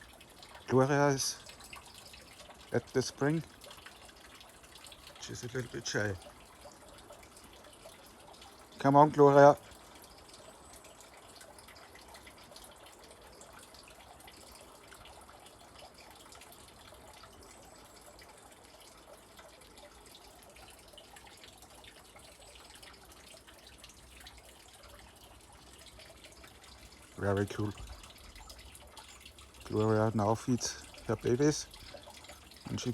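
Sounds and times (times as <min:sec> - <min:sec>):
spring water trickling and dripping: 0:00.0 - 0:32.9.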